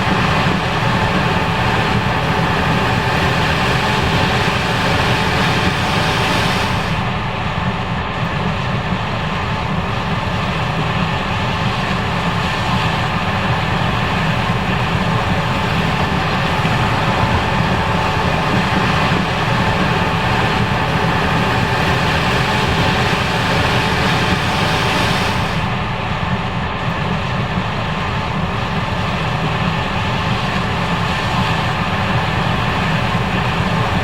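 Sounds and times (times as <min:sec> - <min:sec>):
combine harvester droning: 0:00.0 - 0:34.0
machinery whining tones: 0:00.0 - 0:34.0.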